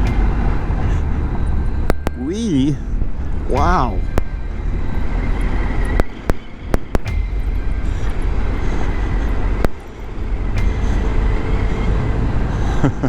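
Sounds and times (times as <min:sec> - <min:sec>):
wind and road noise: 0:00.0 - 0:02.2, 0:02.8 - 0:13.0.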